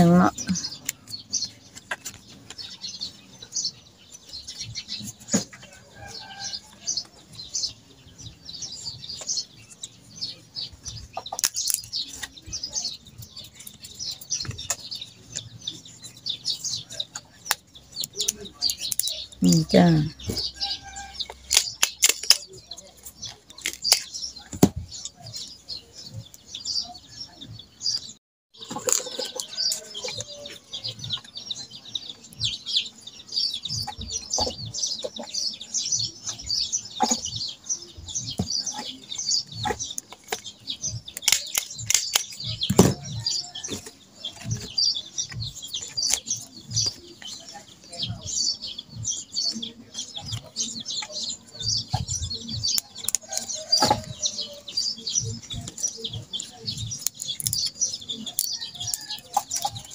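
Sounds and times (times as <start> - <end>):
leaves and plastic rustling: 0.0 - 26.5, 28.6 - 48.5, 49.3 - 59.9
small birds chirping: 0.0 - 59.9.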